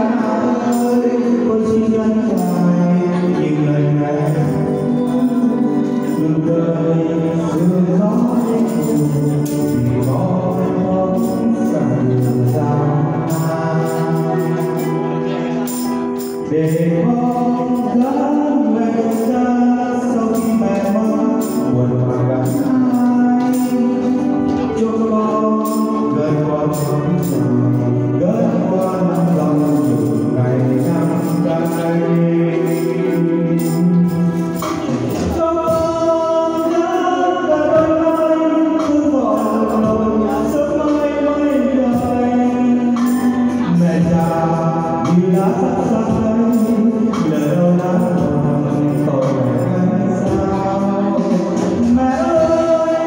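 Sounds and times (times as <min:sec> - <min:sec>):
backing music with percussion beat: 0:00.0 - 0:53.0
man and woman singing duet: 0:00.0 - 0:53.0.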